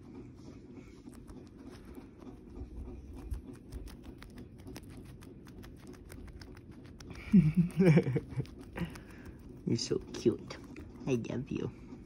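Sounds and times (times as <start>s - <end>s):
guinea pig chewing leaf: 0.0s - 12.0s.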